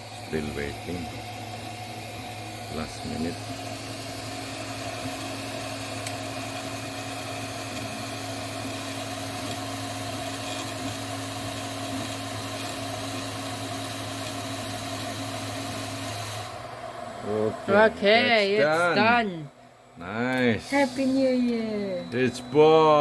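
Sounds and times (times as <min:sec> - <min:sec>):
cooling fans whirring: 0:00.0 - 0:23.0
printer motors humming: 0:00.0 - 0:23.0.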